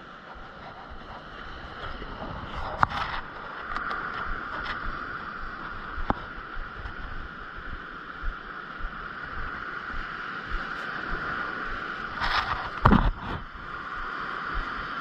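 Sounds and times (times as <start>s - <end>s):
wind on microphone: 0.0s - 15.0s
sea surf washing against rocks: 0.5s - 15.0s.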